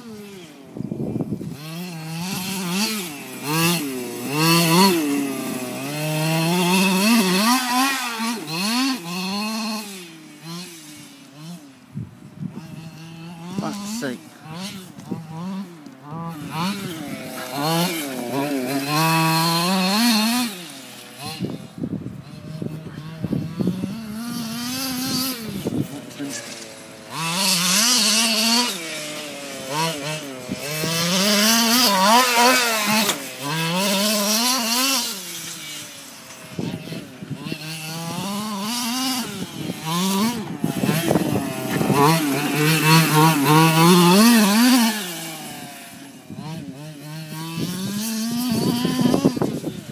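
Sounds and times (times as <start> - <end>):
small two-stroke engine revving: 0.0 - 49.9.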